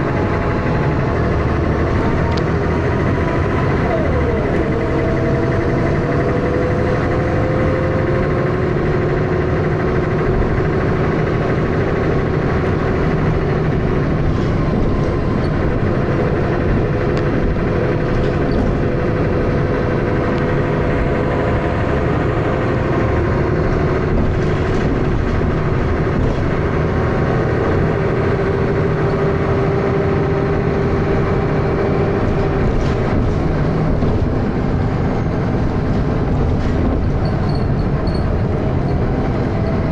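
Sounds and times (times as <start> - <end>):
bus engine running rough: 0.0 - 39.9
engine knocking noise: 0.0 - 39.9.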